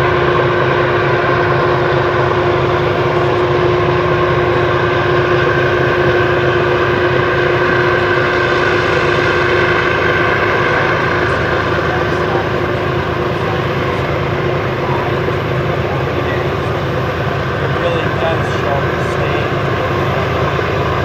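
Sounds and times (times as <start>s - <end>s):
steady tones: 0.0s - 21.0s
train wheels rumbling on rail: 0.0s - 21.0s.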